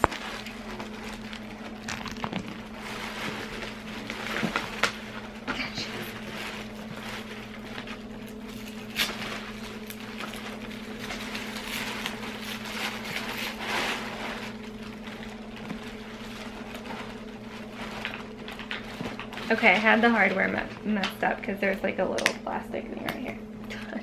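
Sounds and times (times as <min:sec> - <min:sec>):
plastic and tissue rustling: 0:00.0 - 0:22.2
motor humming: 0:00.0 - 0:24.0.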